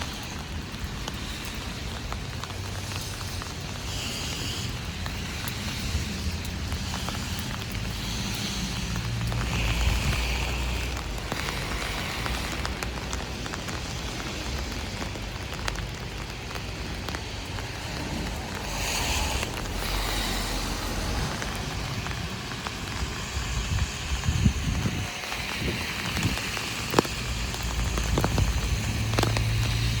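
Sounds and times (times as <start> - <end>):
rain on an umbrella: 0.0 - 30.0
traffic on wet street: 0.0 - 30.0.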